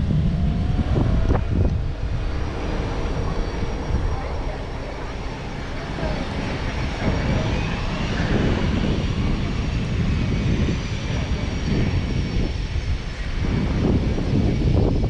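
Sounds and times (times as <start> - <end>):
high jet whine: 0.0 - 15.0
jet engines roaring: 0.0 - 15.0.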